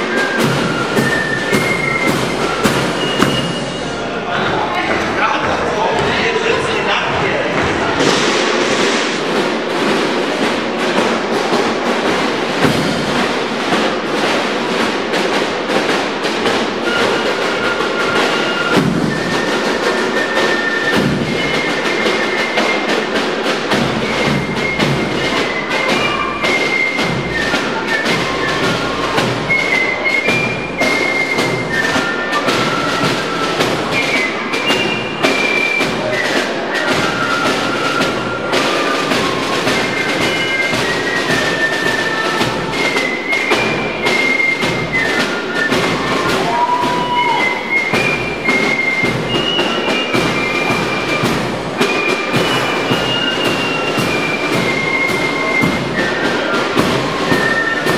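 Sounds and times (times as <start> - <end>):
snare drums march rhythm: 0.0 - 57.9.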